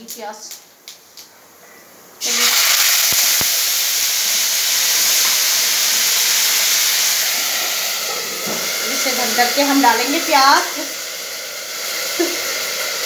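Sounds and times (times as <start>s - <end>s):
onion sizzling in hot oil: 2.2s - 13.0s.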